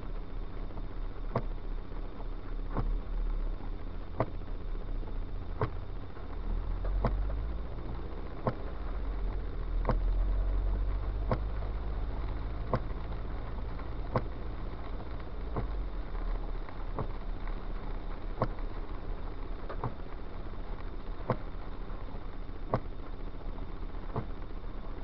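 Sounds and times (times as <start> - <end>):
engine and tyre rumble: 0.0 - 25.0.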